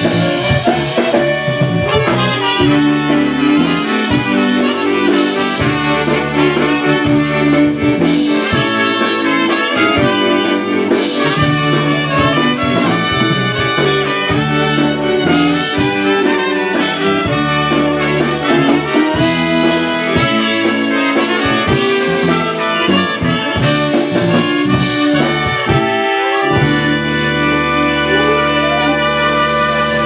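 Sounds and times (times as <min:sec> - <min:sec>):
electric bass guitar: 0:00.0 - 0:30.0
steady drum beat: 0:00.0 - 0:30.0
trumpets playing melody: 0:00.0 - 0:30.0.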